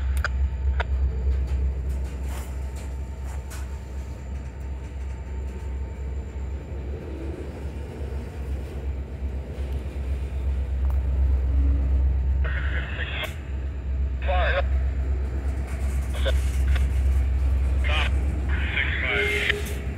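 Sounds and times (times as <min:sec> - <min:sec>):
freight train wheels rumbling: 0:00.0 - 0:19.9.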